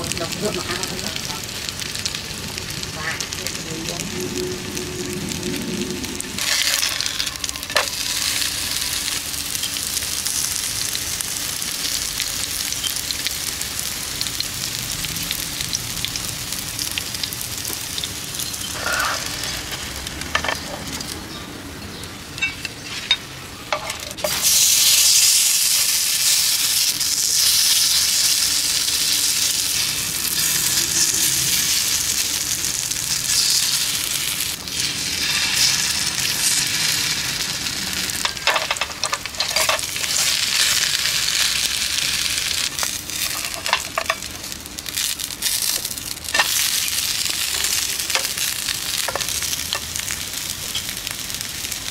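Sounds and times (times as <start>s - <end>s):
oil sizzling in a pan: 0.0s - 51.9s.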